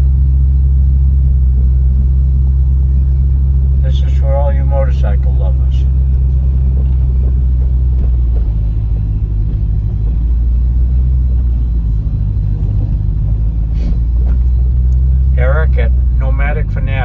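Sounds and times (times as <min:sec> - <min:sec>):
car driving inside cabin: 0:00.0 - 0:17.0.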